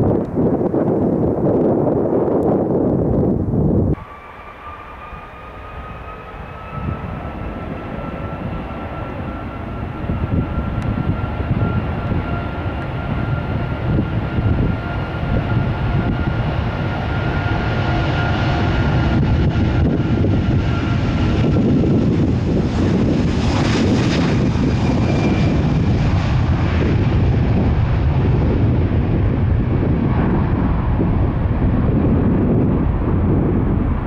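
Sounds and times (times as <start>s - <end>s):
jet engine rumble: 0.0s - 34.0s
jet engine whine: 0.0s - 34.0s.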